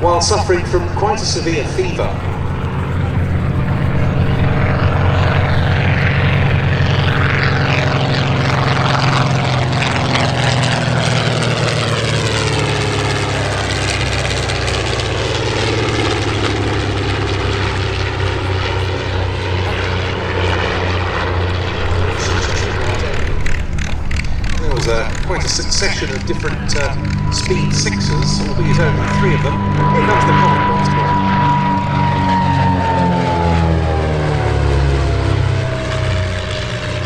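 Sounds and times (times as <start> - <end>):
propeller aircraft flying past: 0.0 - 37.0.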